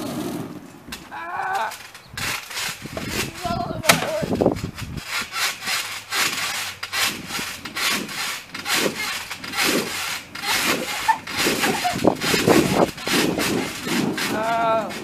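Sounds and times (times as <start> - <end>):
water beads swishing on trampoline: 0.4 - 15.0.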